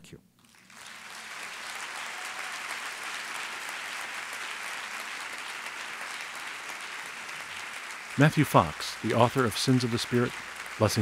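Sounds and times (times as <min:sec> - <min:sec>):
audience applauding: 0:00.4 - 0:11.0.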